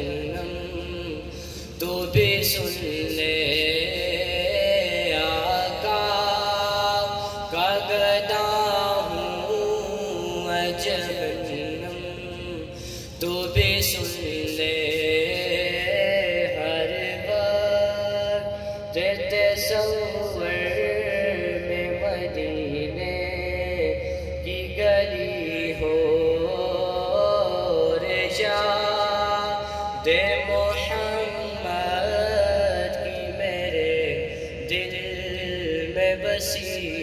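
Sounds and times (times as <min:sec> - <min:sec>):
man singing devotional song: 0:00.0 - 0:37.0.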